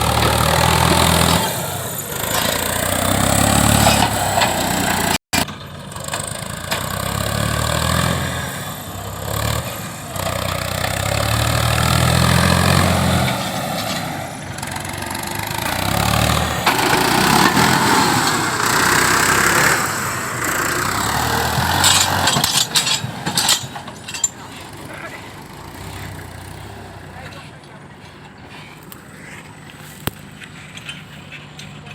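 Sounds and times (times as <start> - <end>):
diesel machinery engine: 0.0 - 31.9.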